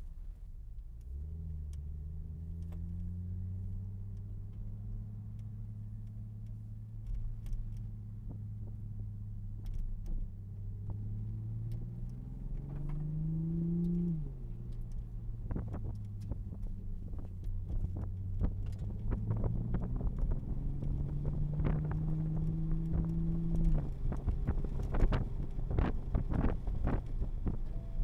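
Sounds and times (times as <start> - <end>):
car engine at low revs: 0.0 - 28.0.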